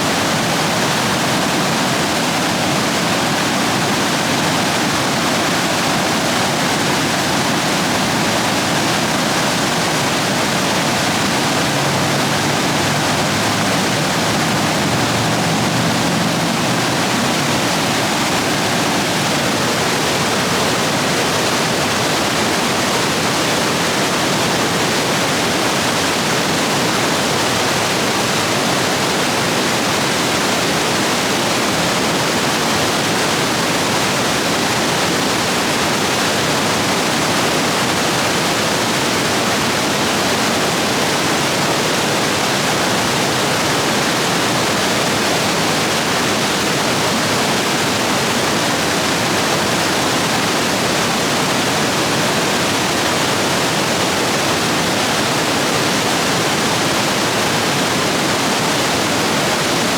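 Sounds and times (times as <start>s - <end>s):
stream rapids rushing over rocks: 0.0s - 59.9s.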